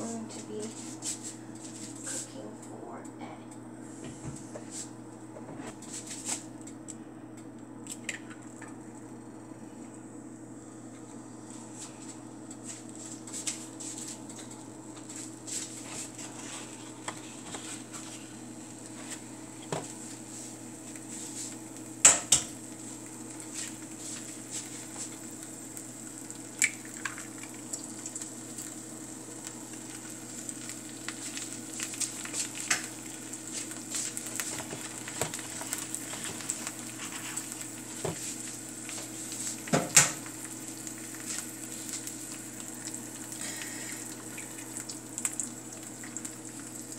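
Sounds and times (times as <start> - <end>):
eggs sizzling in a pan: 8.0 - 46.9.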